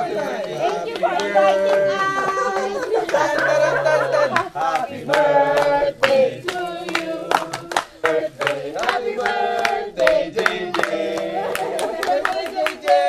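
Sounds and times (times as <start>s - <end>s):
group of people singing: 0.0s - 13.0s
rhythmic hand clapping: 0.0s - 13.0s.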